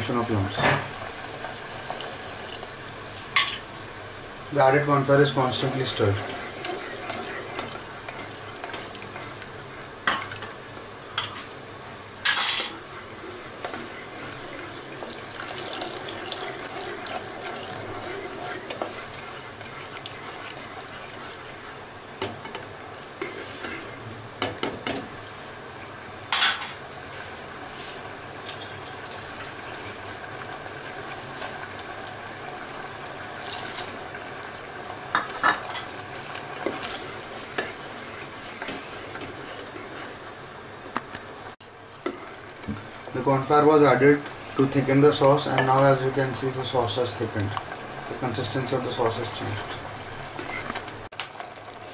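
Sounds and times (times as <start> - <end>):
sauce bubbling: 5.3 - 12.1, 12.8 - 24.0, 28.3 - 51.9.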